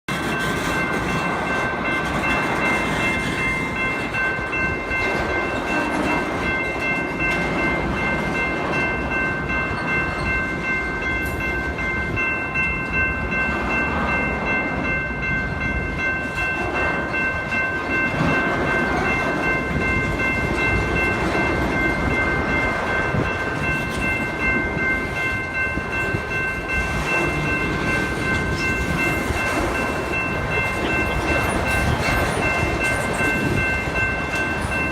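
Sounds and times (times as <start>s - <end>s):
train wheels rumbling on rails: 0.1s - 34.9s
high ringing tone: 2.6s - 34.9s.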